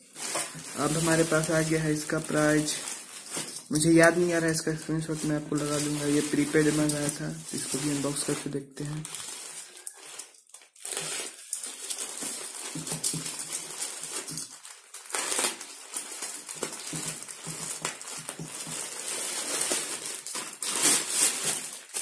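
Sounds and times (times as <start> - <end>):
plastic being torn: 0.0 - 22.0
plastic mailer crinkling: 0.0 - 22.0.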